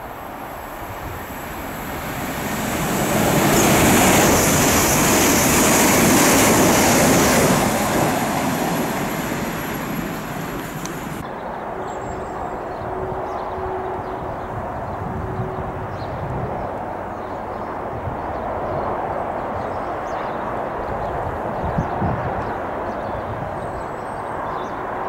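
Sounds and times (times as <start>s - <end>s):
passenger train passing at speed: 0.0s - 25.0s.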